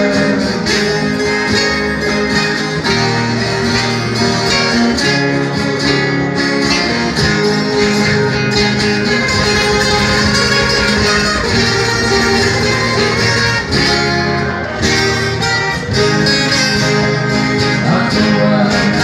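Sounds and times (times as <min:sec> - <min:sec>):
plucked string instrumental music: 0:00.0 - 0:19.0.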